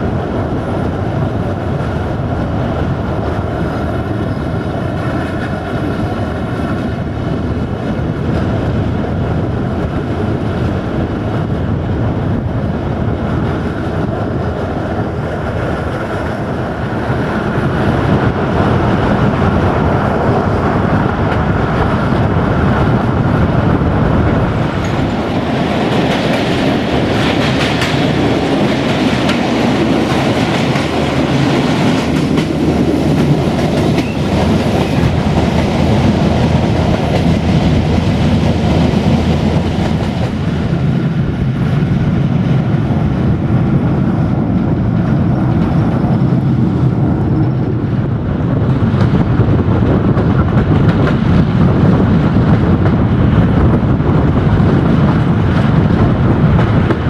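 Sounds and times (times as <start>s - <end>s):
railcar engine rumble: 0.0s - 57.0s
wheels clacking on rails: 0.0s - 57.0s.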